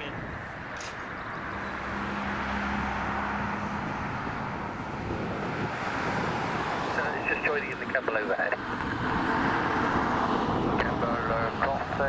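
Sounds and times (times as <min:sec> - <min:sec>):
low engine hum: 0:00.0 - 0:12.0
road vehicle passing: 0:00.0 - 0:12.0.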